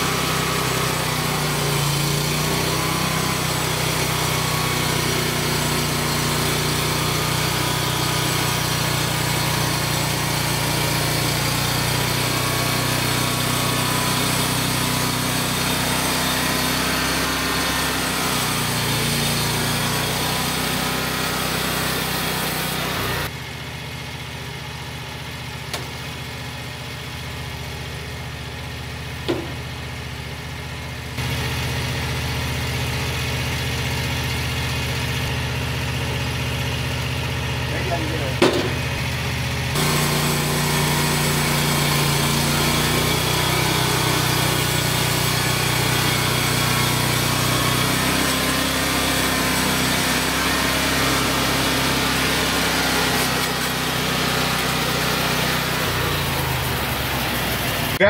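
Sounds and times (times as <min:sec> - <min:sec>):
band saw blade cutting log: 0:00.0 - 0:23.3, 0:29.2 - 0:29.8, 0:31.2 - 0:58.0
small gasoline engine running: 0:00.0 - 0:58.0.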